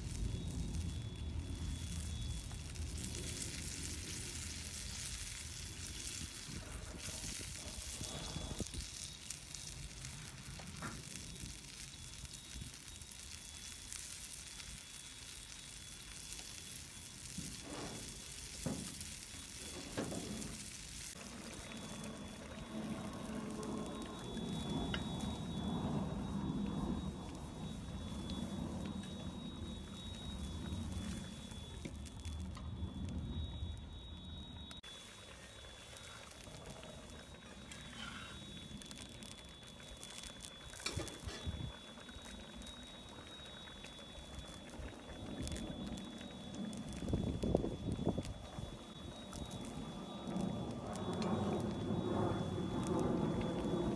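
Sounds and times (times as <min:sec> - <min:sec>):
broth simmering and sizzling in a wok: 0:00.0 - 0:53.9.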